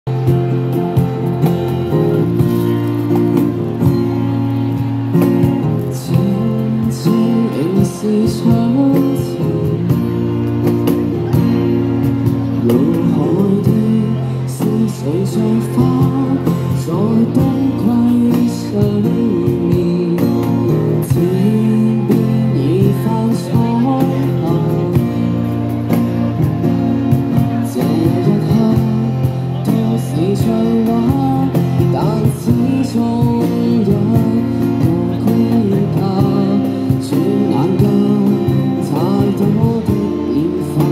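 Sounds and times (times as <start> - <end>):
strummed acoustic guitar: 0.1 - 40.9
man singing into a microphone: 3.8 - 11.6, 12.4 - 40.9.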